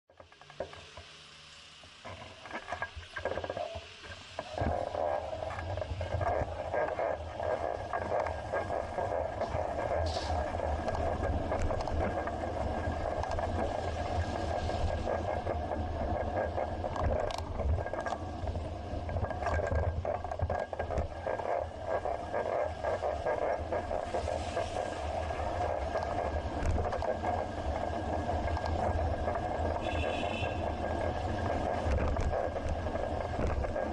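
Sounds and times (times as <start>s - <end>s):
road and wind rumble: 1.8s - 33.9s
bicycle rattling and clicking: 2.2s - 33.9s.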